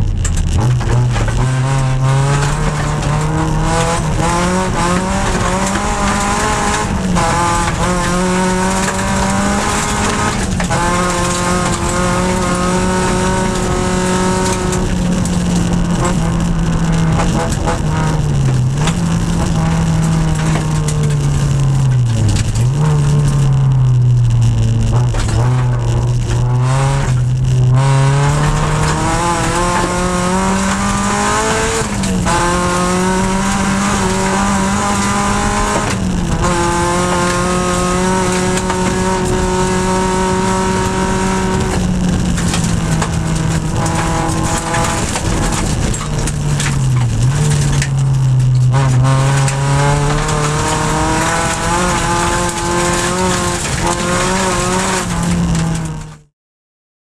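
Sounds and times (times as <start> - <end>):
car engine at high revs: 0.0 - 56.3.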